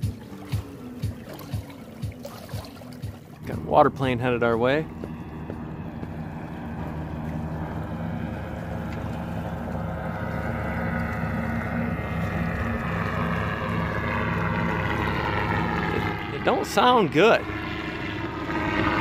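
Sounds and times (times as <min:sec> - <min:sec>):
seaplane propeller engine drone: 0:00.0 - 0:19.0
water noise: 0:00.0 - 0:19.0
wind: 0:00.0 - 0:19.0.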